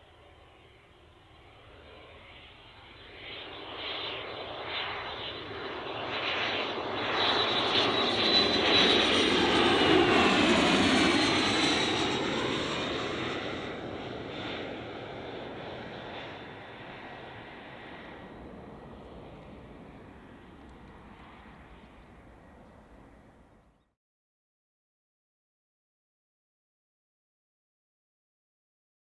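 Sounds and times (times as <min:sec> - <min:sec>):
jet flying past with high whine: 0:00.0 - 0:24.0.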